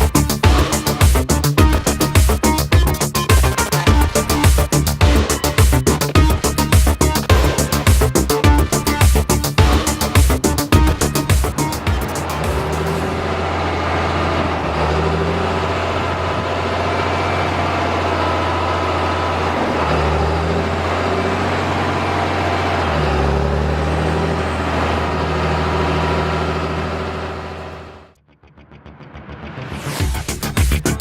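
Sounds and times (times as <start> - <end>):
heavy machinery engine drone: 0.0 - 28.2.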